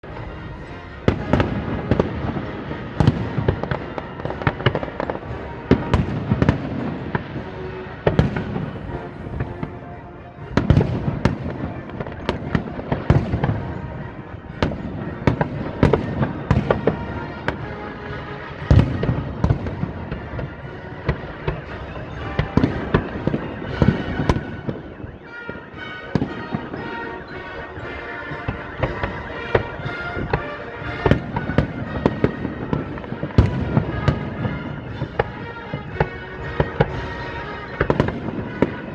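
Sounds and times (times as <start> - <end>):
fireworks bursts and bangs: 0.0 - 38.9
music playing: 0.0 - 38.9.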